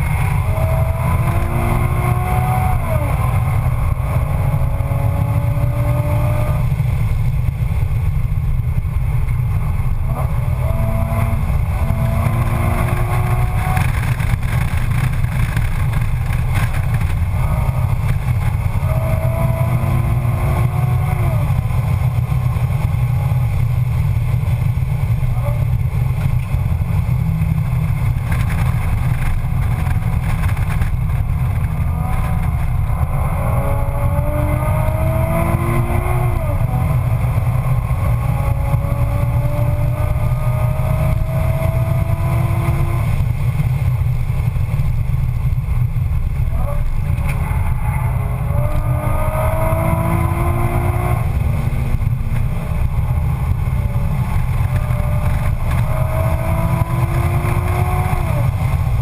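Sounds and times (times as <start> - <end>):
car engine drone from cabin: 0.0 - 59.0.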